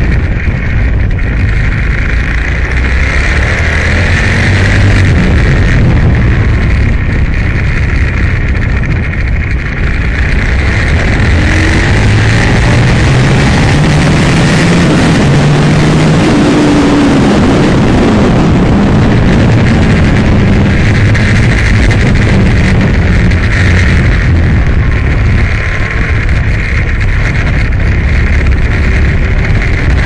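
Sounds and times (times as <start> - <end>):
motorcycle engine accelerating: 0.0 - 30.0
wind rush: 0.0 - 30.0.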